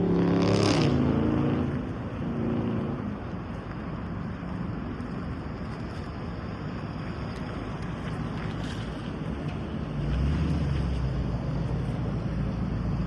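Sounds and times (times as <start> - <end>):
pickup truck engine drone: 0.0 - 13.0
road and wind noise: 0.0 - 13.0.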